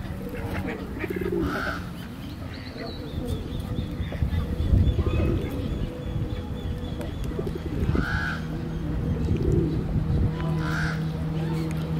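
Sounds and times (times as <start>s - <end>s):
low rumbling noise: 0.0s - 11.9s.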